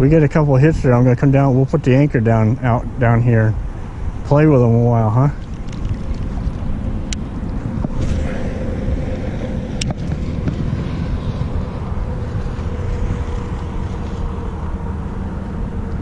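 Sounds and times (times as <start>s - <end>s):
wind on microphone: 0.0s - 16.0s
boat motor running: 2.3s - 16.0s.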